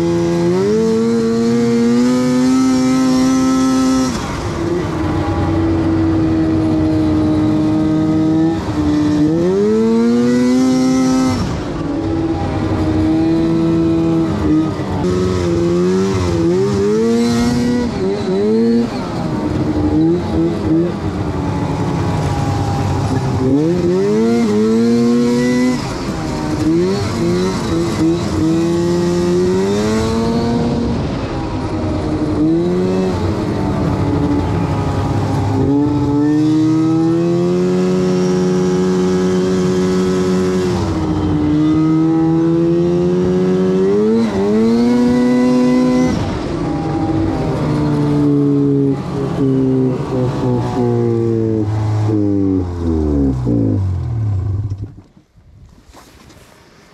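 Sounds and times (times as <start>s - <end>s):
snowmobile engine revving: 0.0s - 55.1s.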